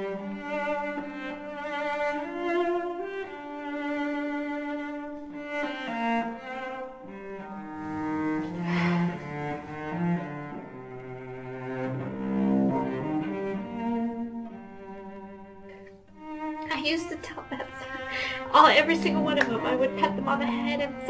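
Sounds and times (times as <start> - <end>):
slow bowed string music: 0.0 - 21.0.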